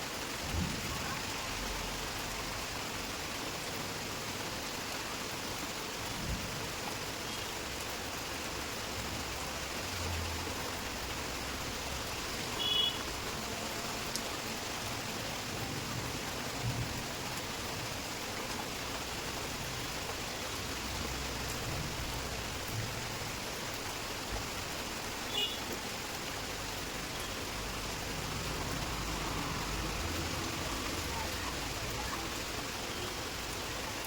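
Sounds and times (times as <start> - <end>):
heavy rain hissing: 0.0 - 34.0.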